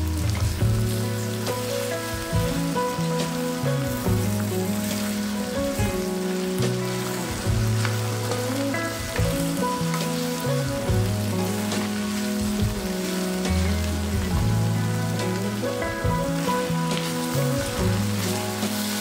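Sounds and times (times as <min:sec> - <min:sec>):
background music with low notes: 0:00.0 - 0:19.0
okra sizzling in hot oil: 0:00.0 - 0:19.0
spatula stirring in pan: 0:00.1 - 0:19.0.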